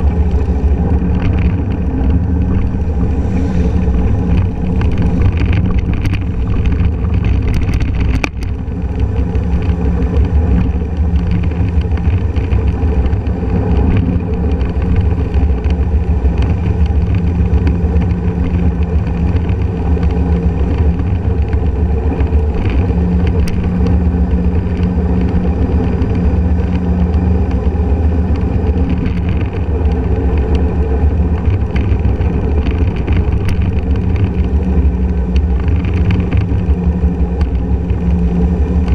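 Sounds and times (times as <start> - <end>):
scooter engine running: 0.0 - 38.9
wind and road rumble: 0.0 - 38.9.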